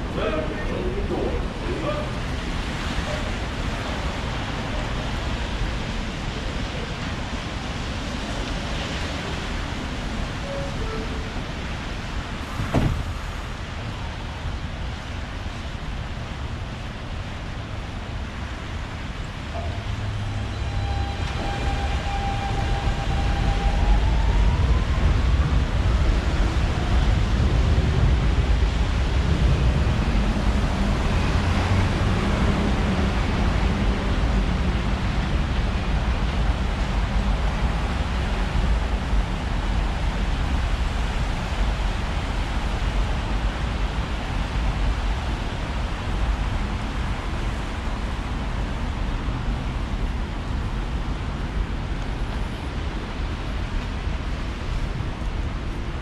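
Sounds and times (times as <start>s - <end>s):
rumble of train wheels on track: 0.0s - 56.0s.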